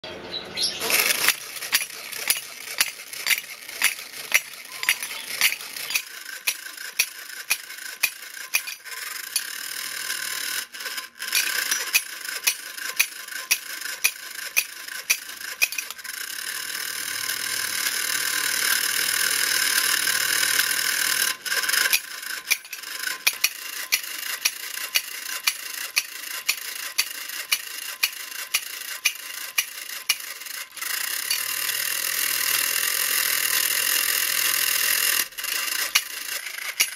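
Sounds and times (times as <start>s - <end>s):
toy motor whirring: 0.6s - 36.9s
toy cymbals clacking: 0.8s - 36.9s.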